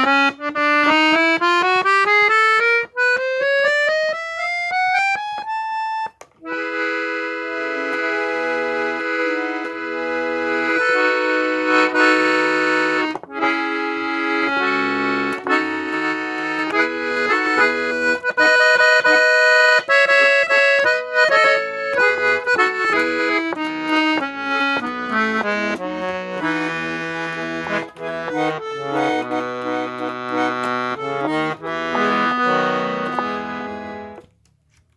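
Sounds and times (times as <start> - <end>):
accordion melody: 0.0 - 34.9.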